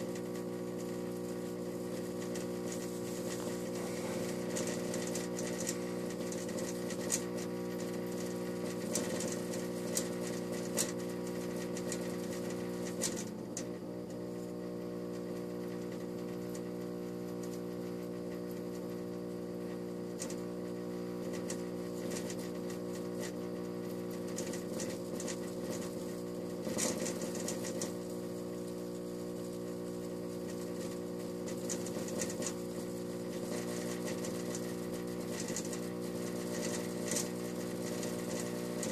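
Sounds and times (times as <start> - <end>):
crackles and ticks: 0.0 - 38.9
fluorescent tube humming: 0.0 - 38.9.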